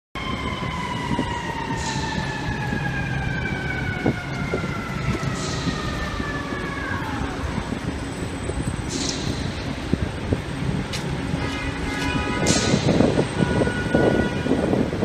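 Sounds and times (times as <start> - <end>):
city street traffic rumble: 0.2 - 15.0
fire truck siren wailing: 0.2 - 15.0.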